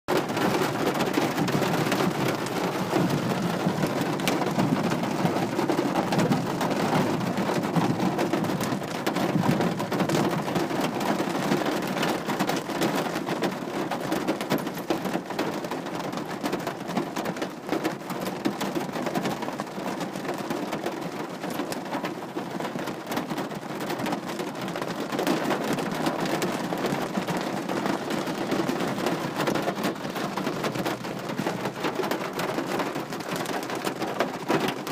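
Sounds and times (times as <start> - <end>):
raindrops pattering: 0.1 - 34.9
steady rain: 0.1 - 34.9.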